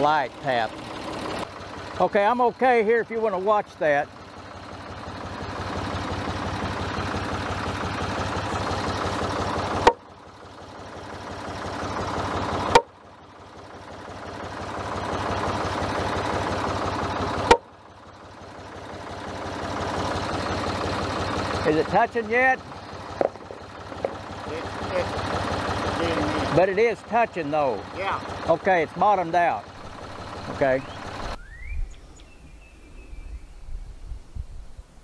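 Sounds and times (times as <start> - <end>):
tractor engine idling: 0.0 - 31.6.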